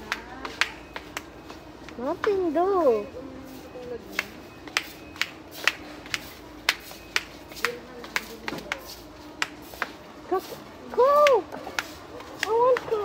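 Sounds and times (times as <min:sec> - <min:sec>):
footsteps on concrete: 0:00.0 - 0:13.0.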